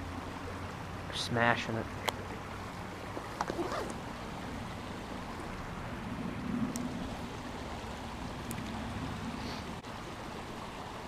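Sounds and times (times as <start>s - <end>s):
water rushing over stream rapids: 0.0s - 11.0s.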